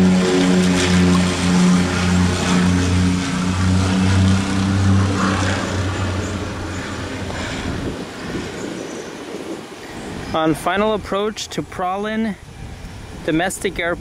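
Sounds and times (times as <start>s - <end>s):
propeller airplane engine drone: 0.0s - 11.7s.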